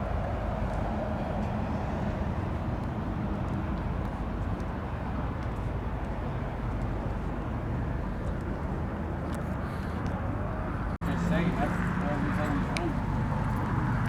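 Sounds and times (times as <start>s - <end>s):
car engines rumbling: 0.0s - 14.0s.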